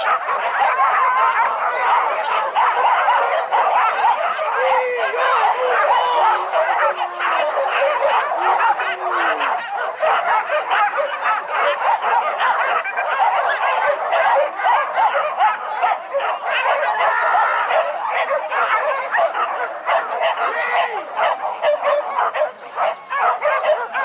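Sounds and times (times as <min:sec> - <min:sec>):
dogs yelping and barking: 0:00.0 - 0:24.0.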